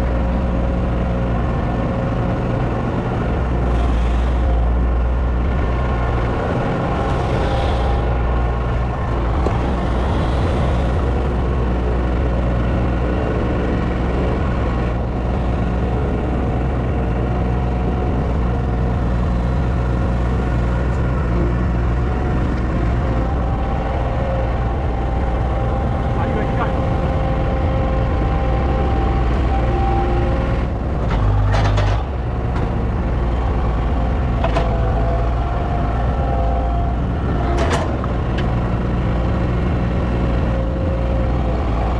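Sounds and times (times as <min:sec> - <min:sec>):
large engine running: 0:00.0 - 0:41.9.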